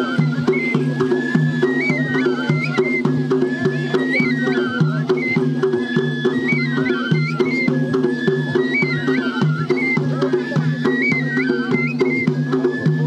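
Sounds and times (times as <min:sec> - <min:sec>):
drum beat: 0:00.0 - 0:13.0
folk dance music: 0:00.0 - 0:13.0.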